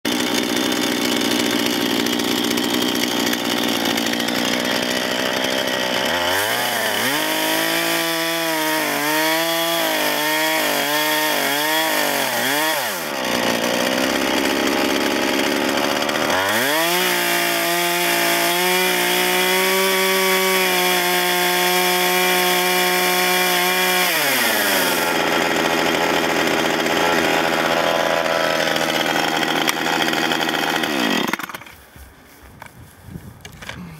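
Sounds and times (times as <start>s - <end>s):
chainsaw revving freely: 0.1s - 31.7s
chainsaw cutting wood: 0.1s - 32.8s.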